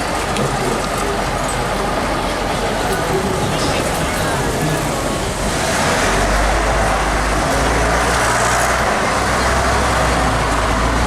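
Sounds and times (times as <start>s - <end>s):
cars and buses passing: 0.0s - 11.0s
low traffic rumble: 0.0s - 11.0s
road noise: 0.0s - 11.0s.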